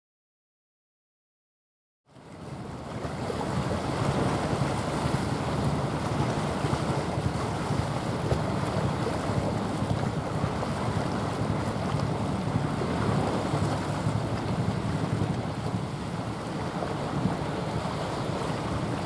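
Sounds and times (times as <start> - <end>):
rushing water: 2.1 - 19.0
wind buffeting microphone: 2.3 - 19.0.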